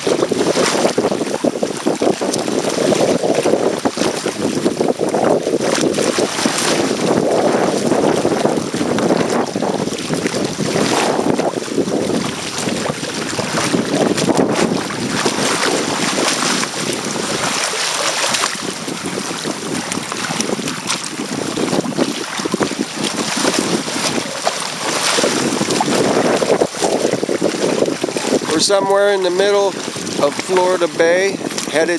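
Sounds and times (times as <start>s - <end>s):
water rushing along hull: 0.0s - 31.9s
wind buffeting microphone: 0.0s - 31.9s.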